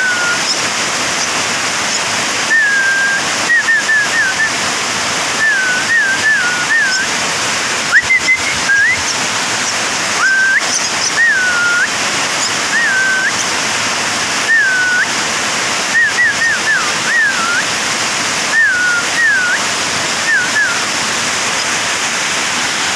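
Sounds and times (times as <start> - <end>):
steady loud hiss: 0.0 - 22.9.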